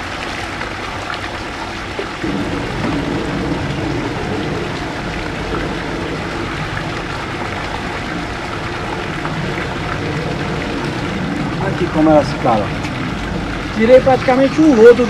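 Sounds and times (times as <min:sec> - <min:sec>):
water gushing into tank: 0:00.0 - 0:15.0.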